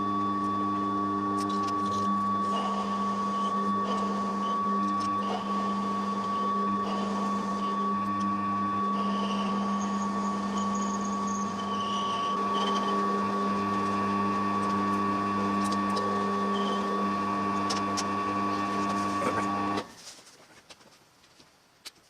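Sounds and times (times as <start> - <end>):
high whine: 0.0 - 19.9
machine tool motor hum: 0.0 - 19.9.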